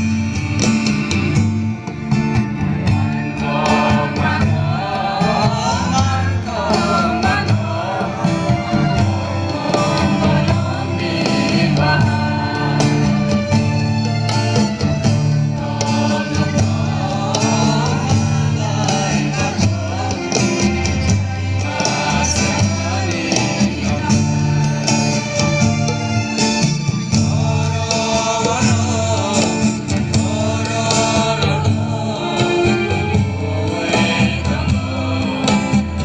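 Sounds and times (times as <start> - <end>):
acoustic guitar: 0.0 - 36.0
bass line: 0.0 - 36.0
group singing into microphones: 2.6 - 36.0.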